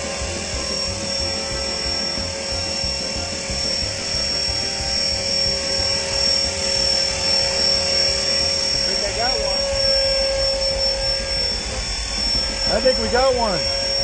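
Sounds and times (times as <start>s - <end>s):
electric motor high whine: 0.0s - 14.0s
rotor blades beating: 0.0s - 14.0s.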